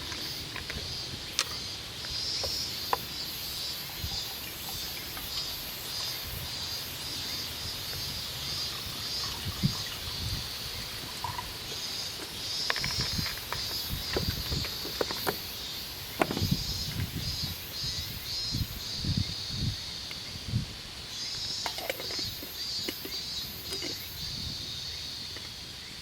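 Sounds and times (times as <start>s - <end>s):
high pulsing wildlife chirr: 0.0s - 26.0s.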